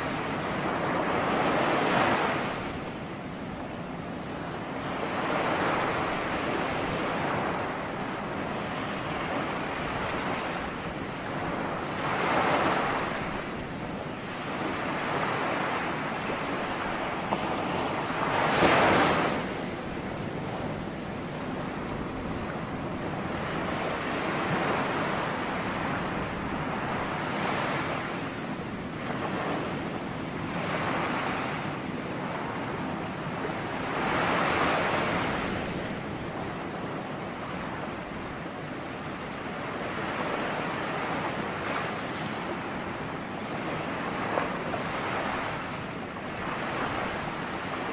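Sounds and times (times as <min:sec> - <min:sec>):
ocean waves breaking: 0:00.0 - 0:47.9.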